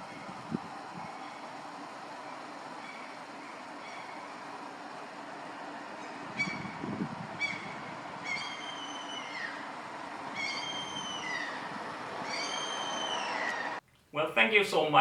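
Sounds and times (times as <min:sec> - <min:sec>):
steady background hiss: 0:00.0 - 0:15.0
gull calling: 0:01.0 - 0:13.8.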